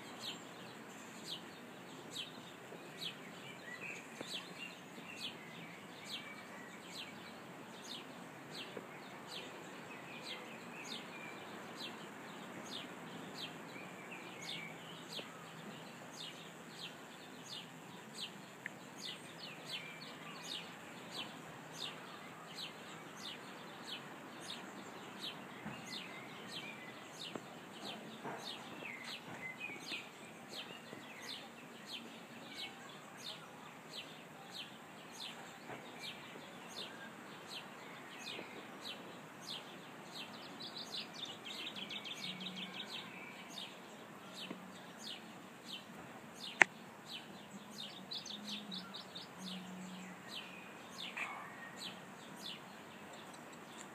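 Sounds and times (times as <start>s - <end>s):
faint background hiss: 0.0s - 53.9s.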